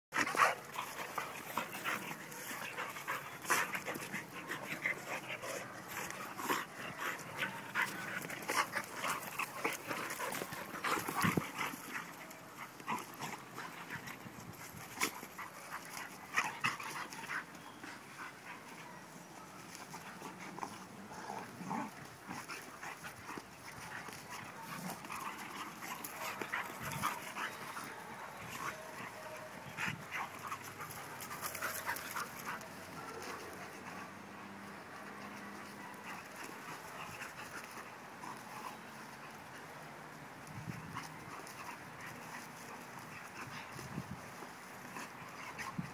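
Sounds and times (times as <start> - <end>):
scuffling noises: 0.1 - 45.9
dog panting: 0.2 - 39.8.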